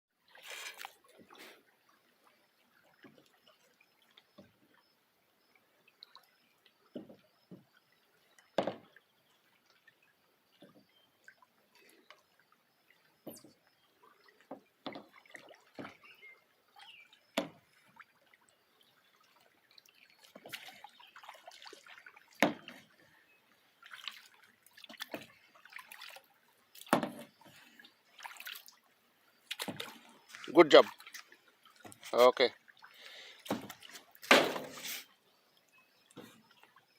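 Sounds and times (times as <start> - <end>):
paddle splashing in water: 0.3 - 4.9, 5.9 - 35.2.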